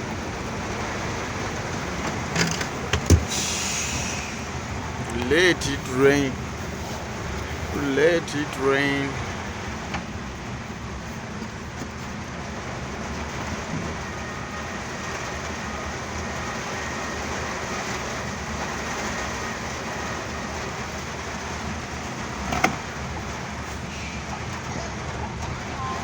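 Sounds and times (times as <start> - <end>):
truck engine running: 0.0 - 23.6
rain falling on a truck: 0.0 - 26.0.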